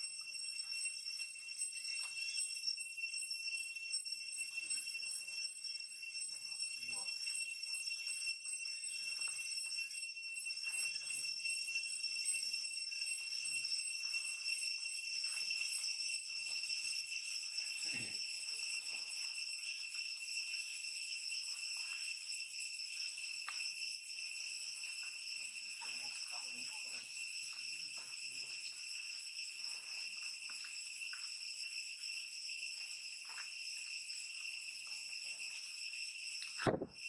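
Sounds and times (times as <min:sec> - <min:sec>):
insect chorus: 0:00.0 - 0:37.0.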